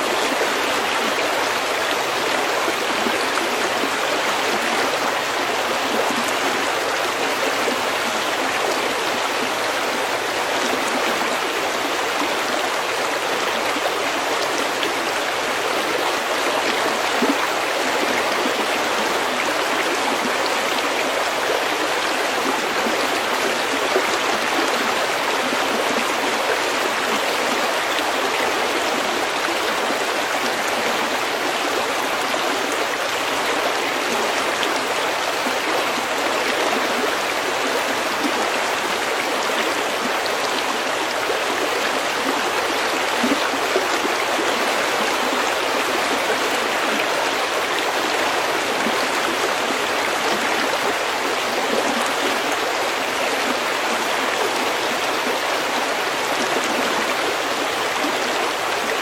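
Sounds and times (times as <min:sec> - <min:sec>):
stream flowing over pebbles: 0:00.0 - 0:59.0.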